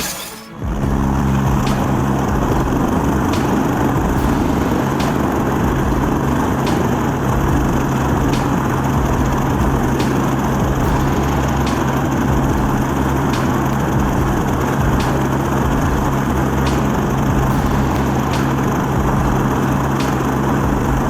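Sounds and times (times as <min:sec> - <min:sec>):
engine running steadily: 0:00.6 - 0:21.0.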